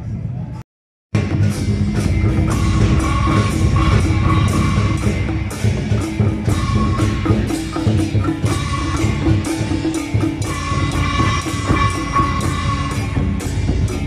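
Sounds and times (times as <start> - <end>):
drum troupe playing fast rhythms: 1.2 - 14.0.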